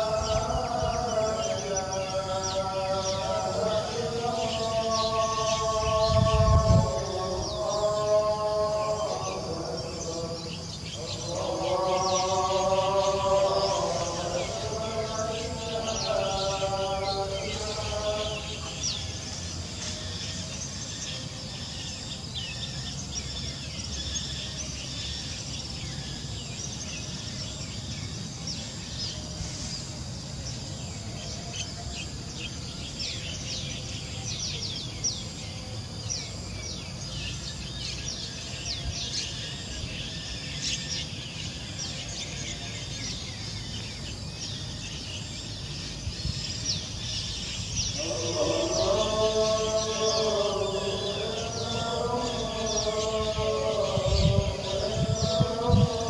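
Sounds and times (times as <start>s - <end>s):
high insect hum: 0.0s - 56.0s
small birds chirping: 0.0s - 56.0s.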